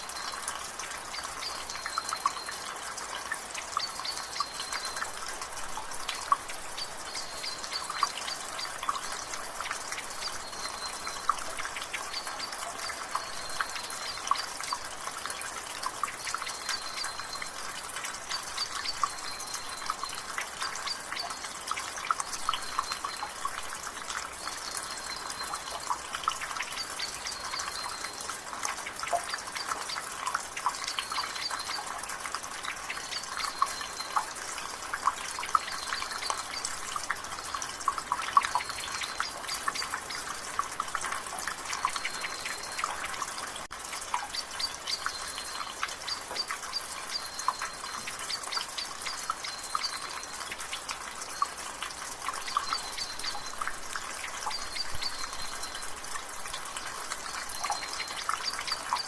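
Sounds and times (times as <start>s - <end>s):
rainwater dripping from gutter: 0.0s - 59.0s.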